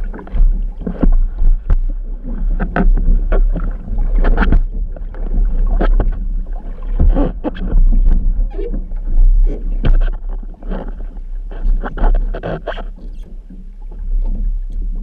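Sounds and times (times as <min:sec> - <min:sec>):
paddles splashing in water: 0:00.0 - 0:15.0
rushing water: 0:00.0 - 0:15.0
wind rumble on microphone: 0:00.0 - 0:15.0.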